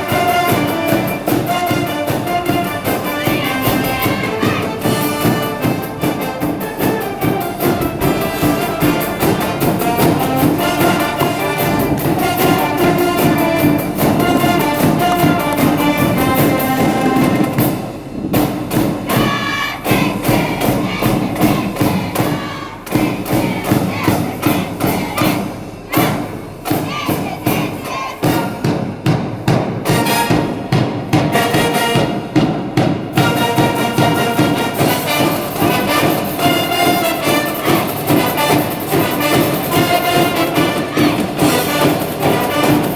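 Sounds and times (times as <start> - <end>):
brass band playing: 0.0 - 42.9
heavy drum beat: 0.0 - 42.9.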